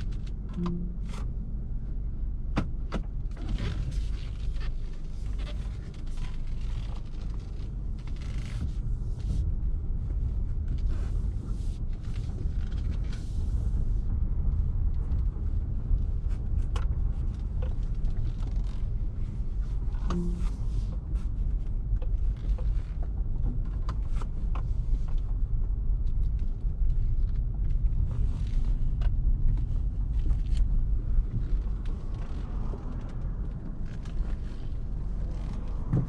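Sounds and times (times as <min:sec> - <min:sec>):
car engine rumble: 0:00.0 - 0:36.0.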